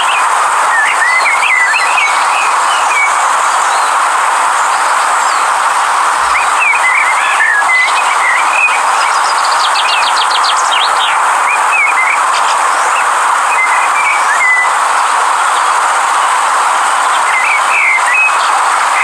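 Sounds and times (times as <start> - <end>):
river water rushing: 0.0 - 19.0
small birds chirping: 0.8 - 4.0, 4.6 - 14.8, 17.0 - 19.0.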